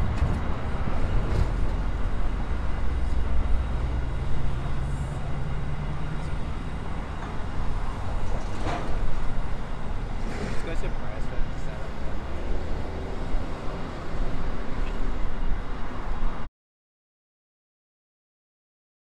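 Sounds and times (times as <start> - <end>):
freight train wheels rumbling: 0.0 - 15.9.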